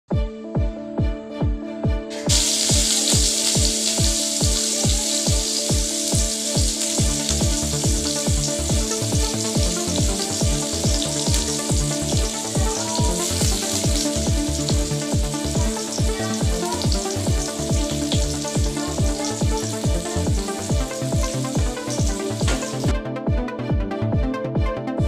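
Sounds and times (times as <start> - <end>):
background music with a beat: 0.1 - 25.0
food sizzling in a pan: 2.1 - 22.9.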